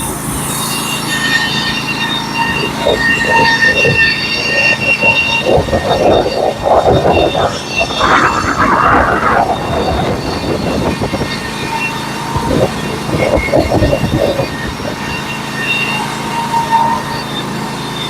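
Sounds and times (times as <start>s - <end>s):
sawmill engine running: 0.0s - 18.0s.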